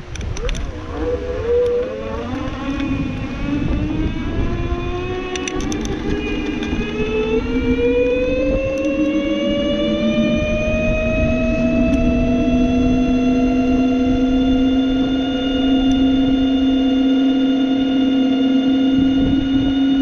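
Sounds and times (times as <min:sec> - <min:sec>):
electric scooter motor whining: 0:00.0 - 0:20.0
wind on microphone: 0:00.0 - 0:20.0.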